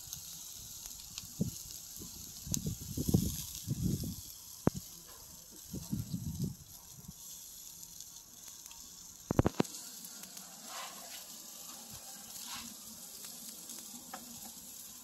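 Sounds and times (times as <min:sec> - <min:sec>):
chicken sizzling on grill: 0:00.0 - 0:15.0.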